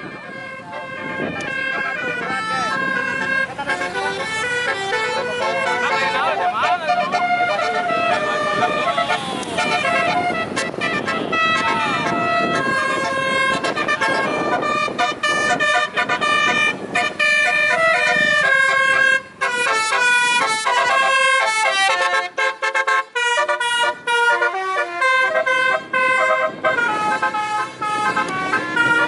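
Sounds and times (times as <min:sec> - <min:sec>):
multi-tone vehicle air horn tune: 0:00.3 - 0:29.0.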